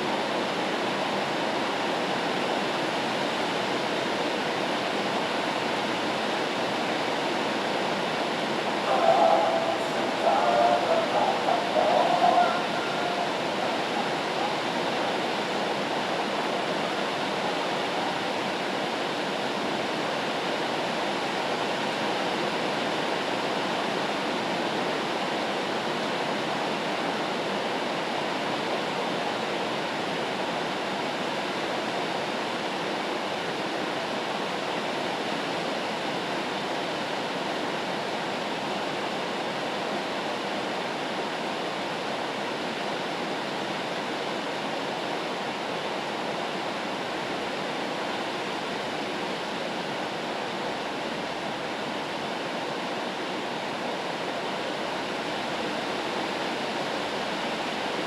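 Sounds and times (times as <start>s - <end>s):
rain white noise hiss: 0.0s - 58.0s.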